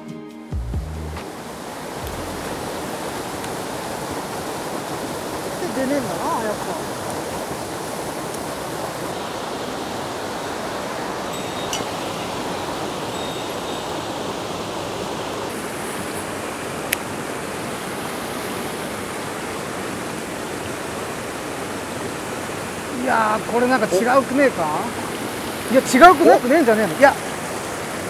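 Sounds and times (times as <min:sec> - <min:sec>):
rushing stream water: 0:00.8 - 0:28.0.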